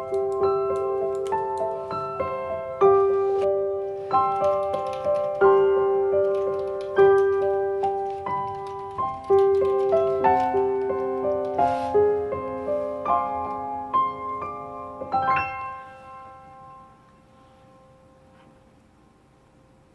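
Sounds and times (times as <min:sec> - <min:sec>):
piano music: 0:00.0 - 0:18.4.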